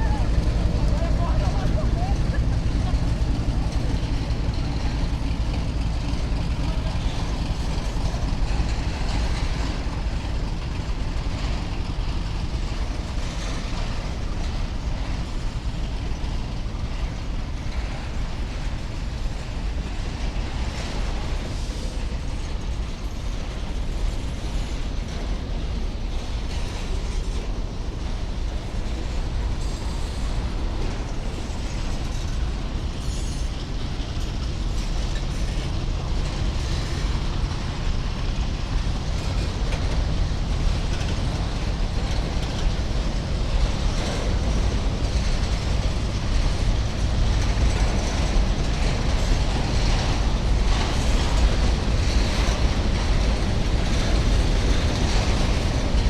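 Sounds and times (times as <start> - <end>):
train wagons rumbling on rails: 0.0 - 56.0.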